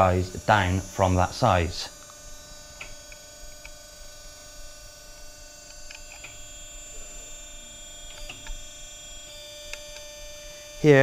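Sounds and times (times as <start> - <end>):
machine electrical hum: 0.0 - 11.0.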